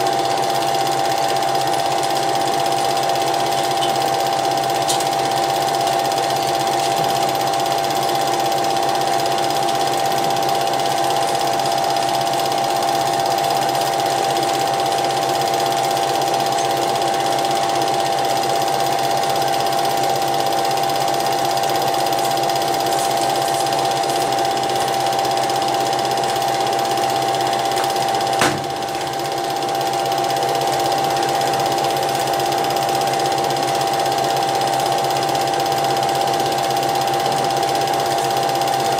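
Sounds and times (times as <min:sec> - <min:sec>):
film projector whirring and rattling: 0:00.0 - 0:38.9.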